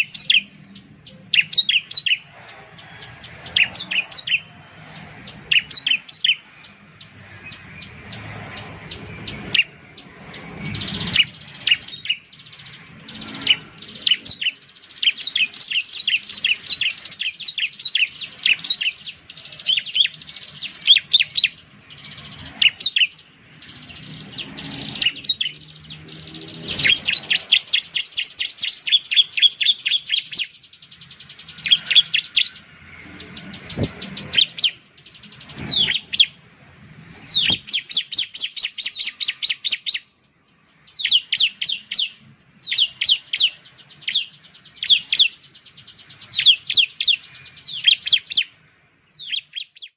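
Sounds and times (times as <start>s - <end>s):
bird singing chattering notes: 0.0s - 49.9s.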